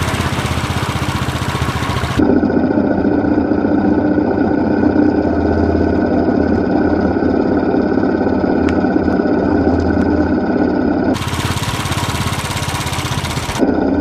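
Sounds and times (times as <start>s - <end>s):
distorted engine pulsing: 0.0s - 14.0s.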